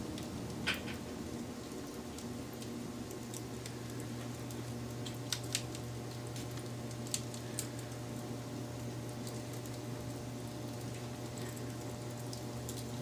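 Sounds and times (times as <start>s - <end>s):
steady low hum: 0.0s - 13.0s
wood fire crackling: 0.0s - 13.0s.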